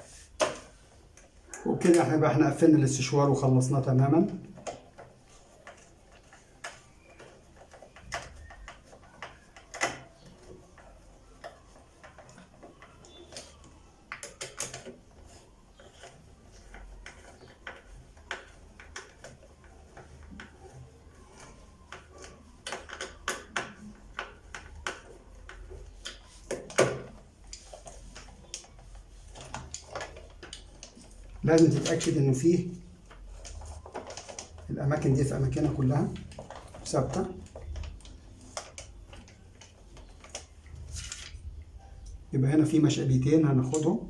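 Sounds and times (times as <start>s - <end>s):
plastic parts clicking and knocking: 0.3s - 42.2s.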